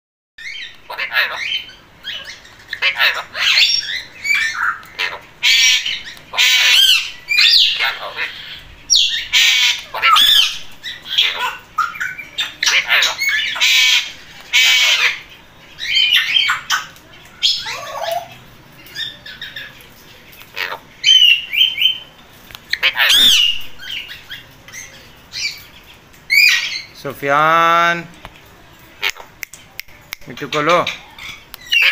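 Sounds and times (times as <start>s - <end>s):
parakeets squawking: 0.4s - 28.1s, 28.8s - 29.4s, 30.2s - 31.9s.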